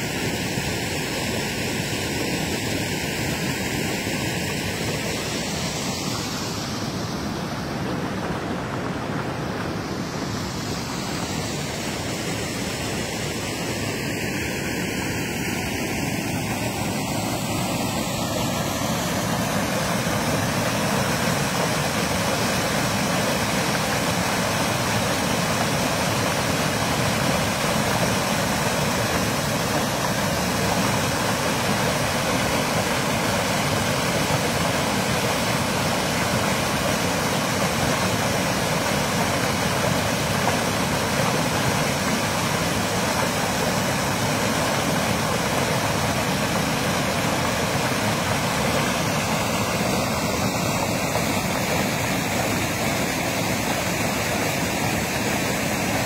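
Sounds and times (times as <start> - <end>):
water gushing into stream: 0.0 - 56.0.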